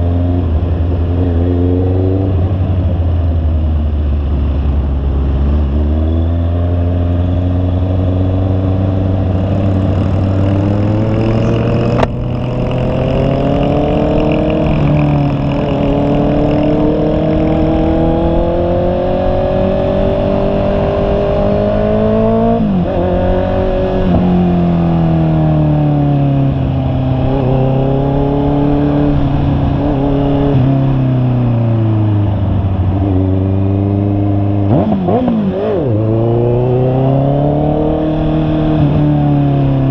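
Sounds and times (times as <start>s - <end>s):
motorcycle engine under way: 4.5s - 39.9s.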